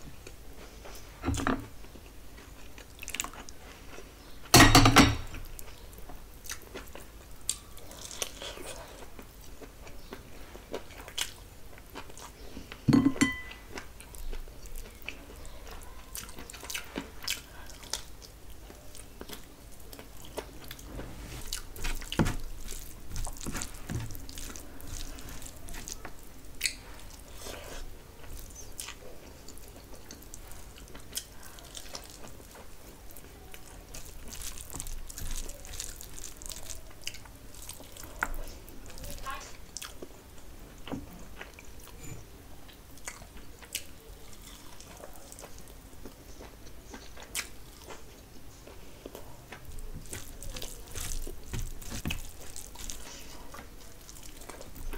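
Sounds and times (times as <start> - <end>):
chewing and mouth smacks: 0.2 - 4.4, 5.3 - 12.9, 13.5 - 42.0, 42.6 - 54.9.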